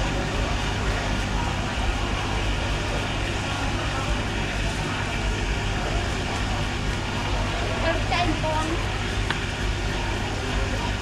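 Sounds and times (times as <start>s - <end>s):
busy street market din: 0.0s - 11.0s.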